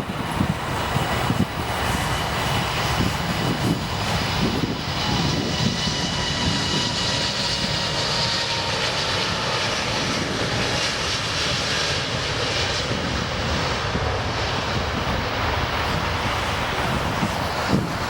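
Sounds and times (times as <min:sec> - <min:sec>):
jet engine rumble: 0:00.0 - 0:18.0
wind buffeting microphone: 0:00.0 - 0:18.0.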